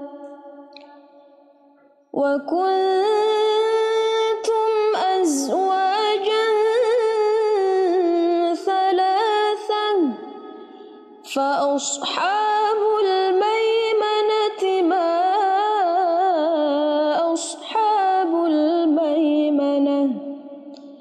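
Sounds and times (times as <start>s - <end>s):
woman reciting melodically: 0.0s - 0.9s, 2.2s - 10.6s, 11.2s - 20.5s.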